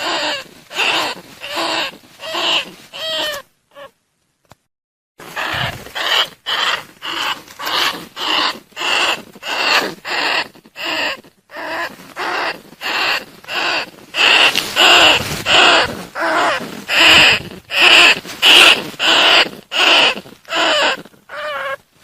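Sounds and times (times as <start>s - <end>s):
rat calls: 0.0s - 4.0s, 5.2s - 21.8s.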